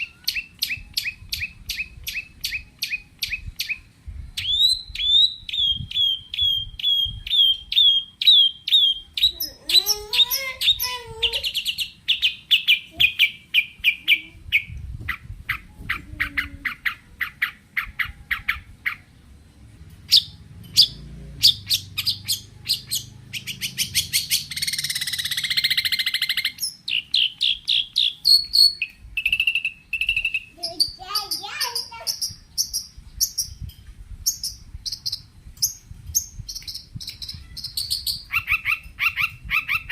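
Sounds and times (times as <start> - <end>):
shrike singing varied song: 0.0 - 19.2, 20.0 - 39.9.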